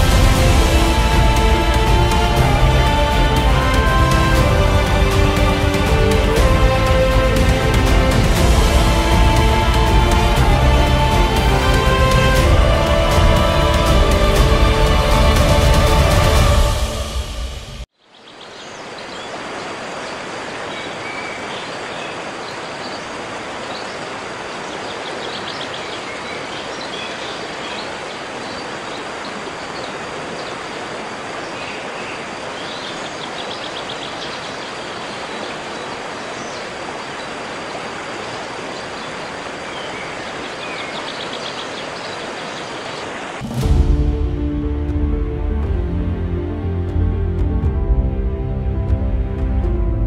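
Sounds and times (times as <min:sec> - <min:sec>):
river water rushing over rocks: 0:00.0 - 0:16.9, 0:18.6 - 0:43.6.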